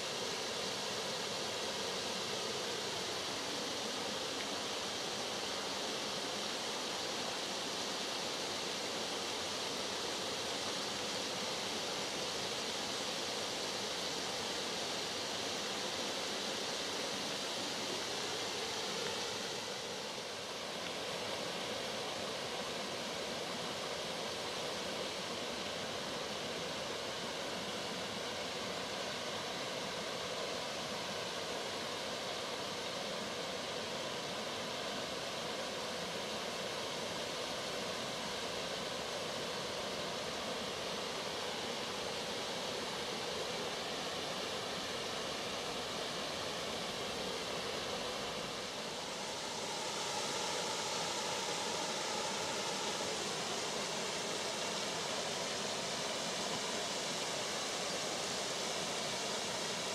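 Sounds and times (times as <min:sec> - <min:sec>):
brook flowing: 0:00.0 - 0:59.9.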